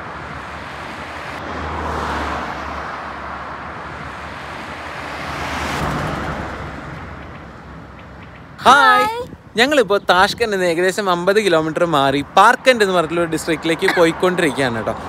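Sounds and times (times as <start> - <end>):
cars passing on paved road: 0.0 - 15.0.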